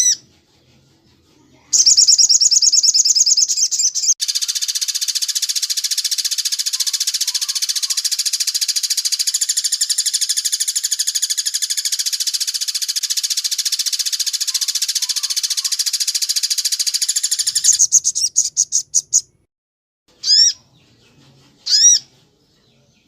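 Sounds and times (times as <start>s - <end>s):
songbird high-pitched trill: 0.0s - 0.2s, 1.7s - 19.3s, 20.2s - 21.0s, 21.7s - 22.0s.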